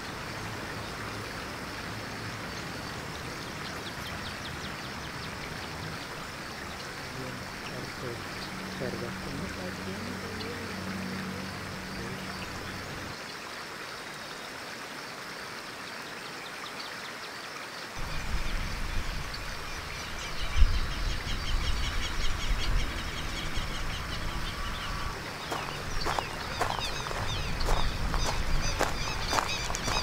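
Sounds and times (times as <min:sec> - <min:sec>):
birds chirping: 0:00.0 - 0:13.3, 0:18.0 - 0:30.0
running water hiss: 0:00.0 - 0:30.0.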